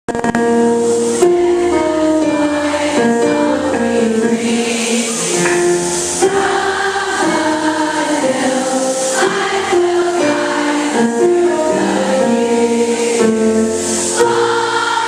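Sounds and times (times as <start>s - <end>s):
girls singing in unison: 1.3s - 15.0s.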